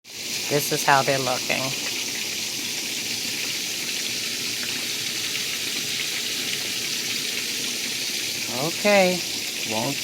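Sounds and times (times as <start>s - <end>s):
meat sizzling in a frying pan: 0.1s - 10.0s.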